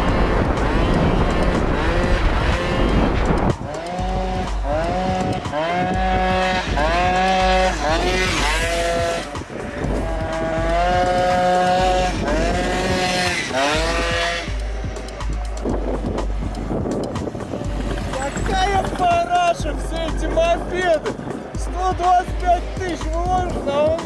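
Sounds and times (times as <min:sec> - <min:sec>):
bass line: 0:00.0 - 0:24.0
gliding lead melody: 0:00.0 - 0:24.0.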